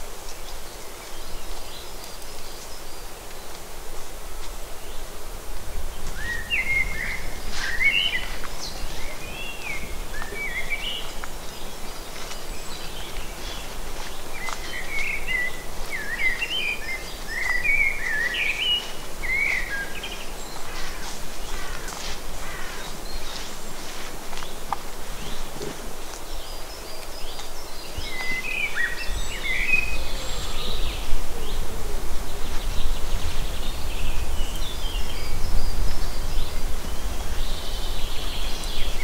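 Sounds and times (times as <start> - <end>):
low woodland rumble: 0.0 - 39.0.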